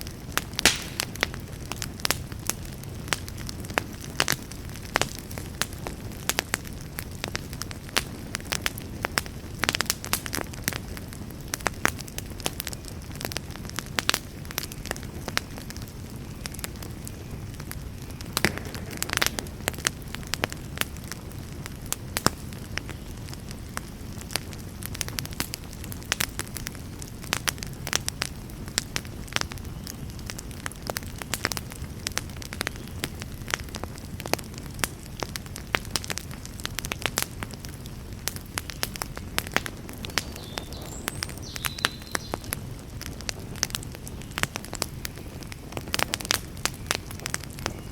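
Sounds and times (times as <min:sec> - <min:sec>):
low fire rumble: 0:00.0 - 0:47.9
wood fire crackling and popping: 0:00.0 - 0:47.9.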